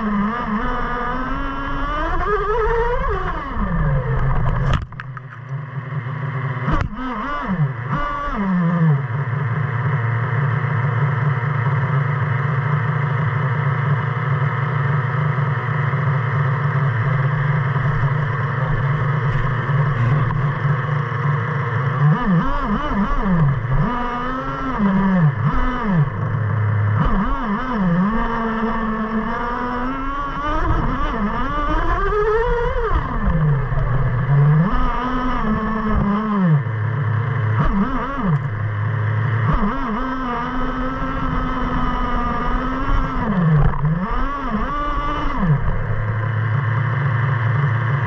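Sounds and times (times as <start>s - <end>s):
model engine idling and revving: 0.0s - 48.0s.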